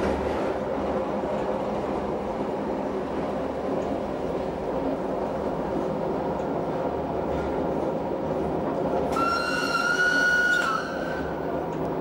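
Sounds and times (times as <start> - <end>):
electric railcar rumbling on track: 0.0 - 12.0.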